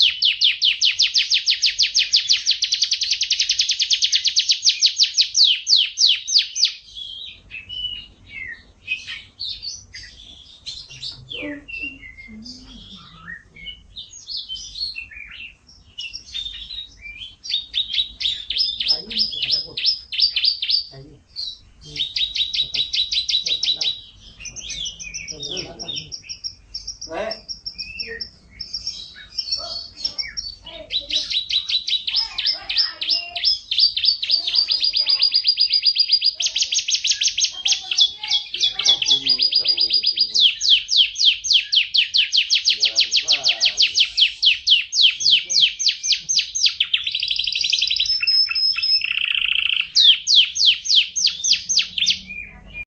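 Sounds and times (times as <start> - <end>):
canaries singing trills: 0.0 - 52.9.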